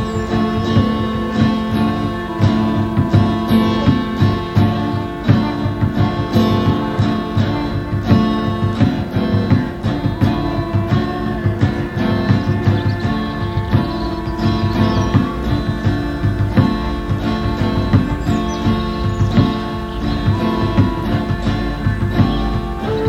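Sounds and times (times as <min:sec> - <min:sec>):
psychedelic rock music: 0:00.0 - 0:23.0.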